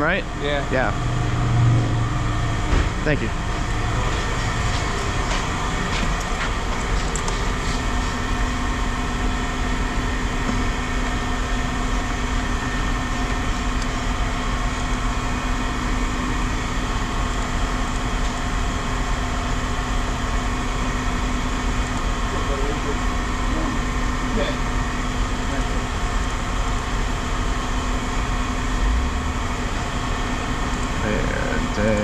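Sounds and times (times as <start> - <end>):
heavy machinery drone: 0.0 - 32.0.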